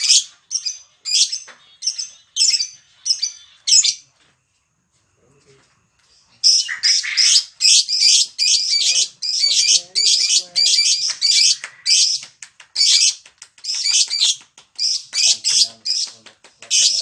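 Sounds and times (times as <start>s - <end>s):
lovebird shrill chattering: 0.0s - 4.0s, 6.4s - 17.0s.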